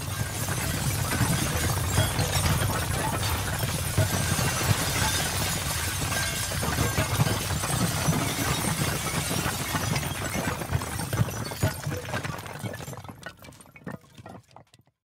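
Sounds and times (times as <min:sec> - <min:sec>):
masonry and debris crashing down: 0:00.0 - 0:14.8.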